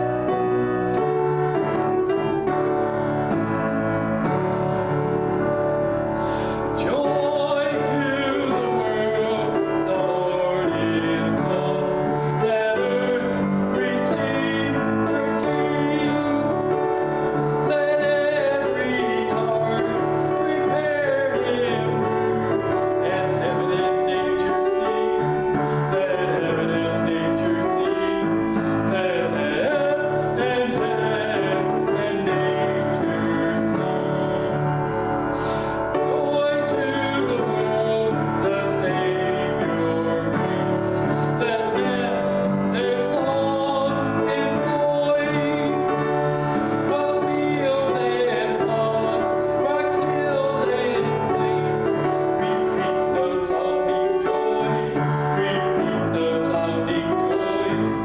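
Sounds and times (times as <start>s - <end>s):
held keyboard chords: 0.0s - 58.0s
man singing with vibrato: 0.0s - 58.0s.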